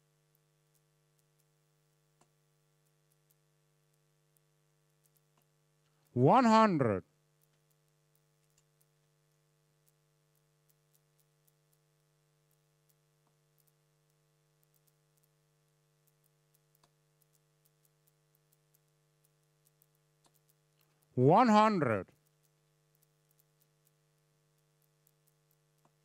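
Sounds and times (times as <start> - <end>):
faint mains hum: 0.0 - 26.0.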